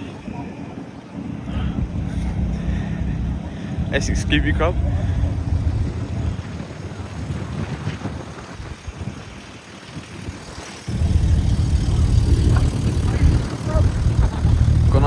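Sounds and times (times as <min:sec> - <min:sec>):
car engines rumbling: 0:00.8 - 0:15.0.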